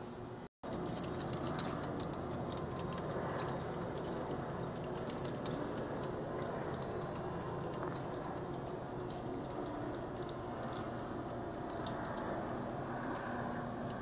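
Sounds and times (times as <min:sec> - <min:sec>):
steady low hum: 0:00.0 - 0:14.0
mechanical ticking and clicking: 0:00.6 - 0:14.0.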